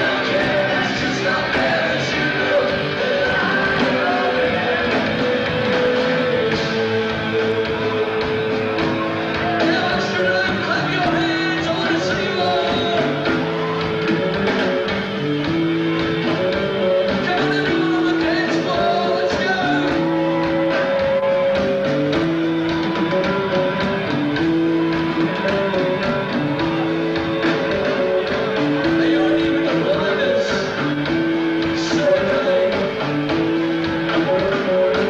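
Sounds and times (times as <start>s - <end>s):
drums: 0.0s - 35.0s
electric guitar riff: 0.0s - 35.0s
live rock band playing: 0.0s - 35.0s.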